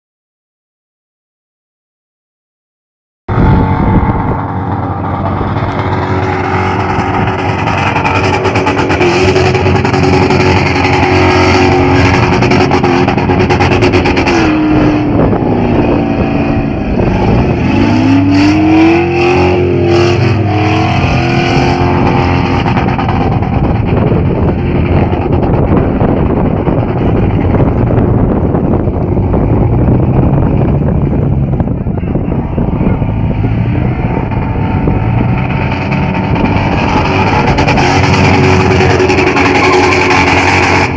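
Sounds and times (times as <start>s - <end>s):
car engine revving high: 3.3s - 40.9s.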